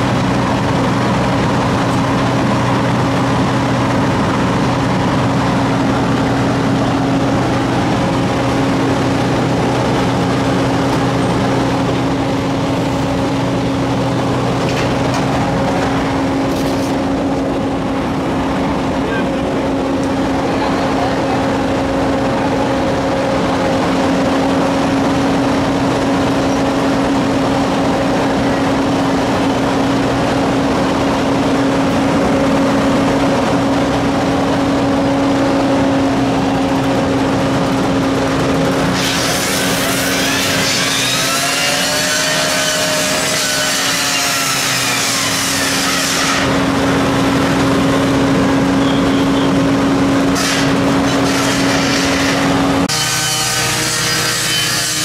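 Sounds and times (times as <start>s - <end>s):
fire engine running: 0.0s - 53.9s.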